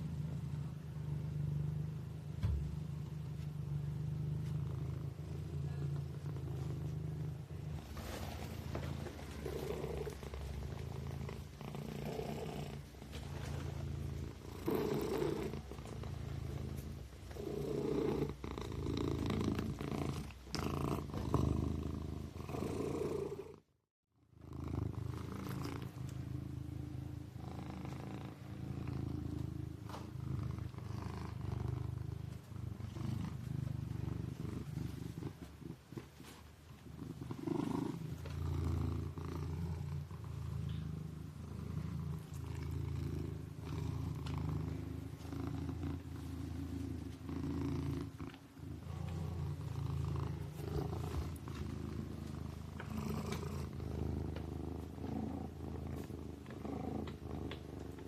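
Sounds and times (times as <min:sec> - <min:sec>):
kitten purring: 0:00.0 - 0:58.0.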